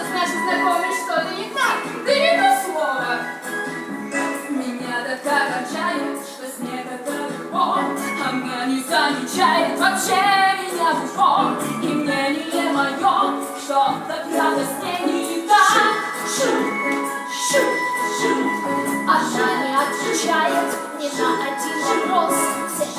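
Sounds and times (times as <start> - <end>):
women singing a show tune: 0.0 - 22.9.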